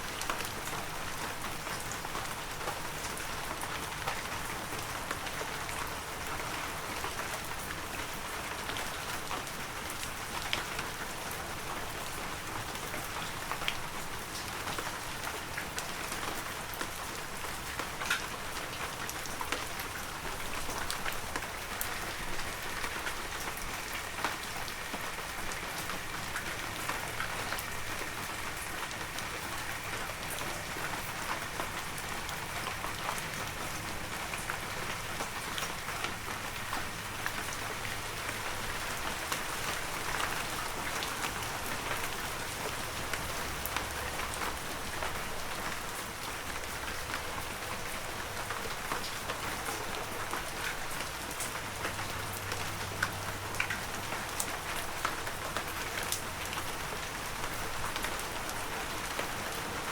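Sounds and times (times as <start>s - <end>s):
heavy rain falling: 0.0s - 59.9s
raindrops ticking close by: 0.0s - 59.9s.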